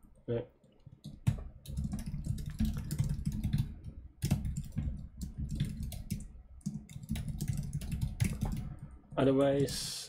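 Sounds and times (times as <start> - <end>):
fast typing on a keyboard: 0.8 - 9.0.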